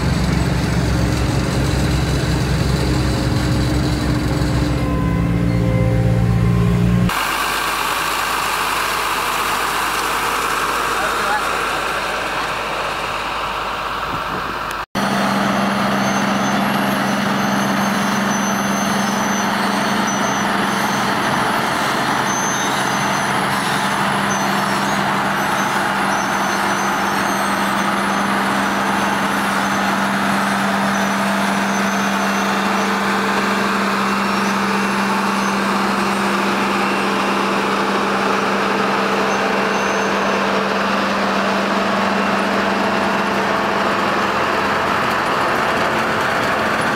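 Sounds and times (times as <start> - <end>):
diesel construction machinery running: 0.0 - 46.9.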